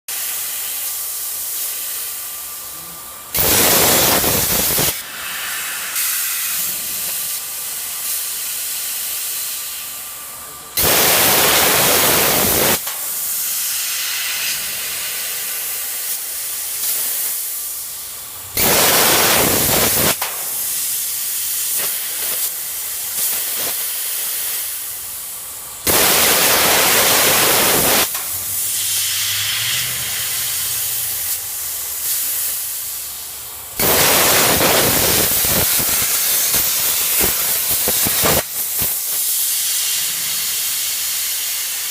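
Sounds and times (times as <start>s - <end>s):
plasma cutter arc hissing: 0.1s - 41.9s.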